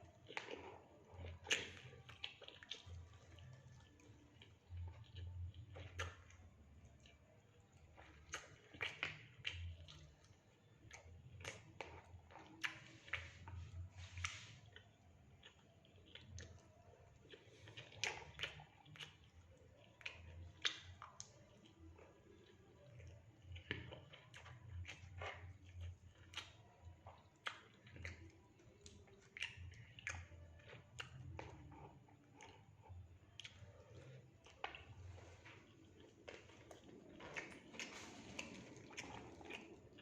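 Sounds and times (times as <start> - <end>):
close-up chewing: 0.0 - 40.0.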